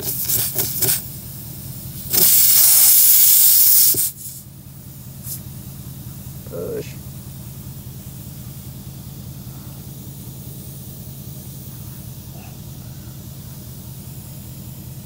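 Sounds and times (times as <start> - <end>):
air hissing from tyre: 0.0 - 6.3, 7.3 - 15.0
engine idling: 0.0 - 15.0.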